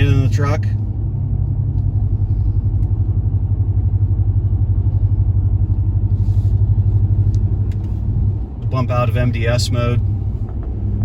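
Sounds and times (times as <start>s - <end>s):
truck engine exhaust drone: 0.0s - 11.0s.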